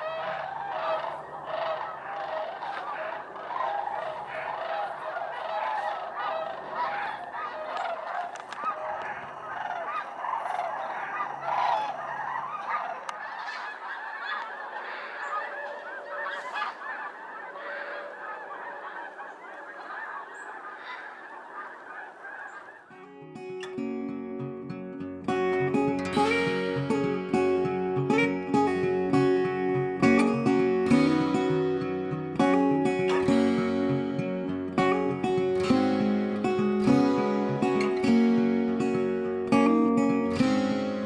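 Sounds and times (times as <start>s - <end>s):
flock of geese honking: 0.0s - 23.1s, 25.7s - 41.0s.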